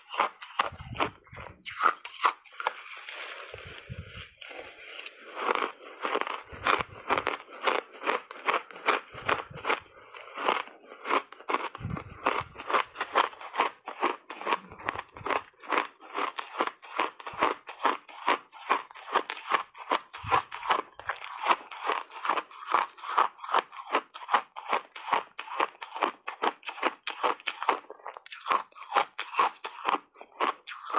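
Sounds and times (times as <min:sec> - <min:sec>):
ice crunching while chewed: 0:00.0 - 0:30.9.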